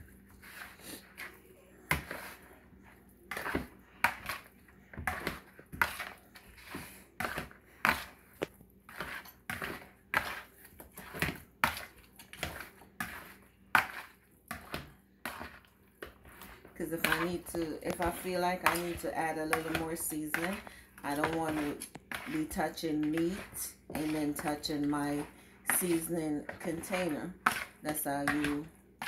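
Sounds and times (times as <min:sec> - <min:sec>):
fork scraping a bowl: 0:00.0 - 0:28.7.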